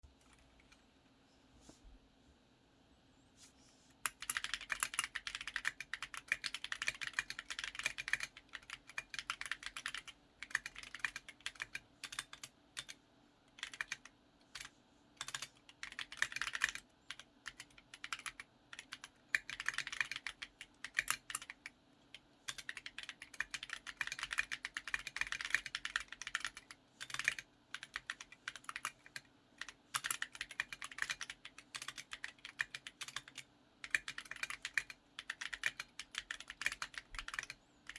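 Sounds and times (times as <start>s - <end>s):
mechanical keyboard keystroke clacks: 4.0s - 13.0s, 14.6s - 21.6s, 22.5s - 37.9s.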